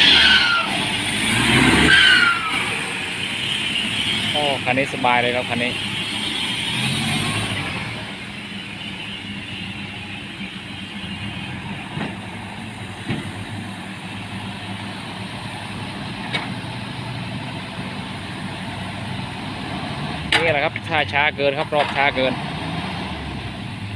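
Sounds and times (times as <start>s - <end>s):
truck engine idling low: 2.2s - 6.7s, 7.5s - 22.3s.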